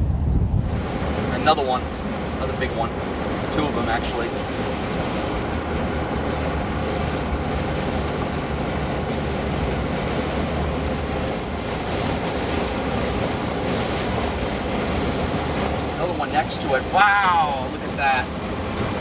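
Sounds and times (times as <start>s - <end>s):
low rumble: 0.0s - 19.0s
wind on microphone: 0.0s - 19.0s.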